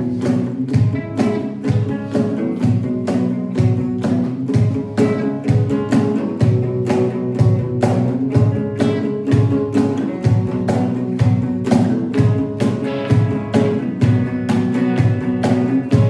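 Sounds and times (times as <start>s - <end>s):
percussive beat with low thumps: 0.0s - 16.0s.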